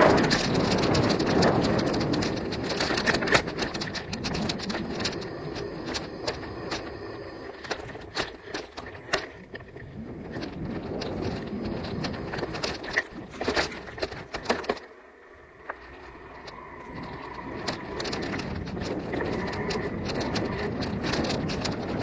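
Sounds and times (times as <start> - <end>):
bike rattling over bumps: 0.0 - 22.0
bike tyres on dirt trail: 0.0 - 22.0.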